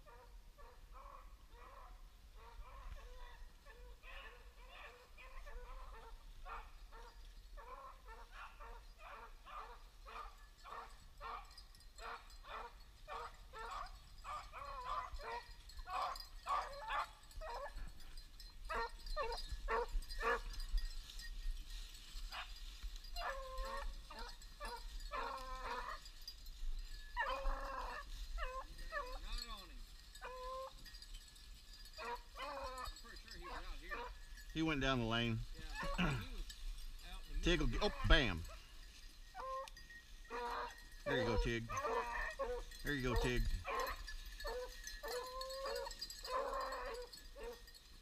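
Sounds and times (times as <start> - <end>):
dogs baying: 0.0 - 21.2, 22.2 - 36.8, 37.4 - 47.9.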